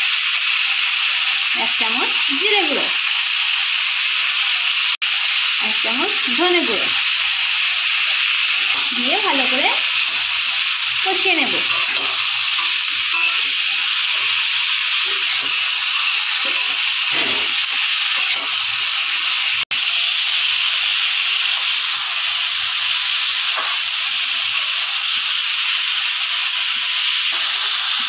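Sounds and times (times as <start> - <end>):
vegetables sizzling in oil: 0.0 - 28.0.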